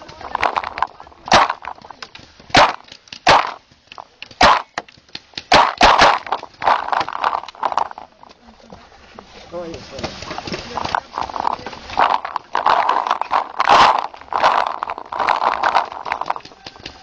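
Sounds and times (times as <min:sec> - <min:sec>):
paintball markers firing: 0:00.0 - 0:08.0, 0:10.4 - 0:17.0.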